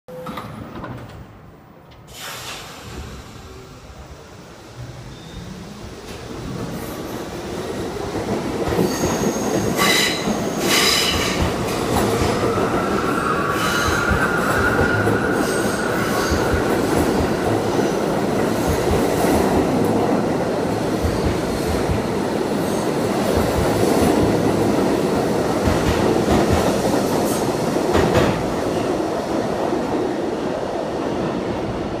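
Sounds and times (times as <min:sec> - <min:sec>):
subway train wheel rumble: 0:00.1 - 0:32.0.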